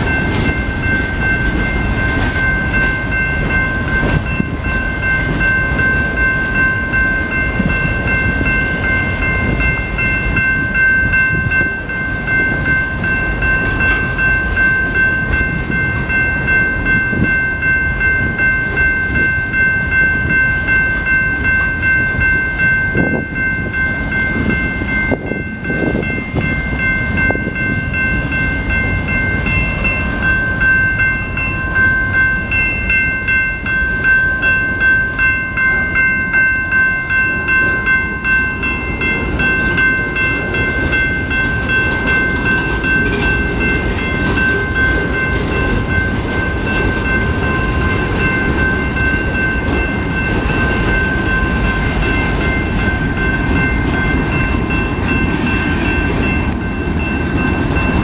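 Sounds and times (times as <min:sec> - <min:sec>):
crossing bell ringing: 0:00.0 - 0:58.0
freight train wheels rumbling: 0:00.0 - 0:58.0.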